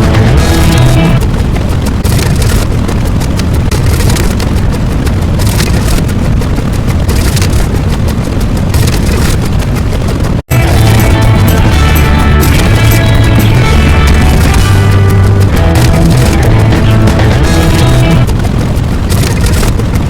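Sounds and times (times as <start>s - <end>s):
loud explosion-like rumbling: 0.0s - 20.0s.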